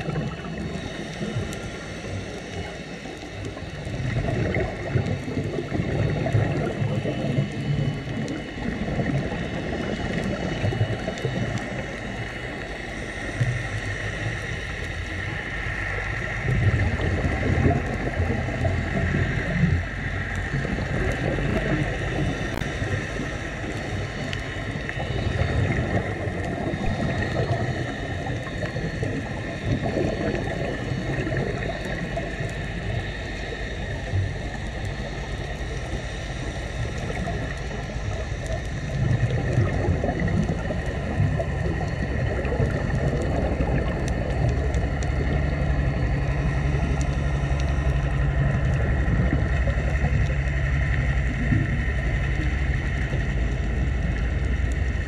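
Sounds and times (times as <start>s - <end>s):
boat motor hum underwater: 0.0s - 55.0s
faint continuous crackle: 0.0s - 55.0s.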